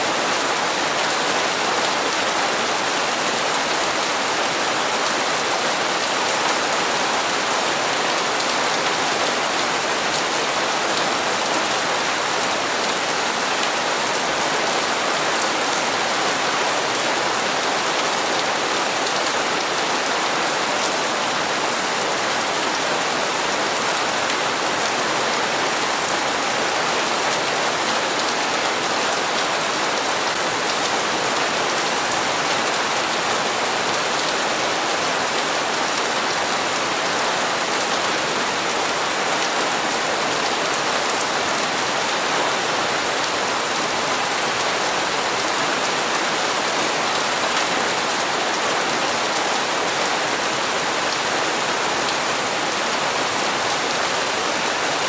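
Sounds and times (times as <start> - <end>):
heavy rain on hard surfaces: 0.0 - 55.0.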